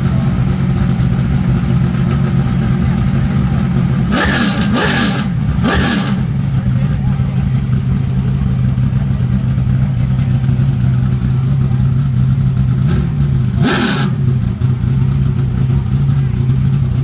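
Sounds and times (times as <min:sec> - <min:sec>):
race car engine revving and idling: 0:00.0 - 0:17.0.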